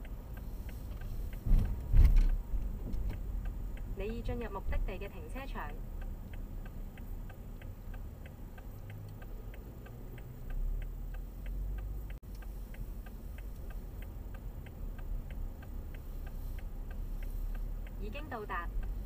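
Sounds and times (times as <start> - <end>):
car humming: 0.0 - 19.0
turn signal clicking: 0.0 - 19.0.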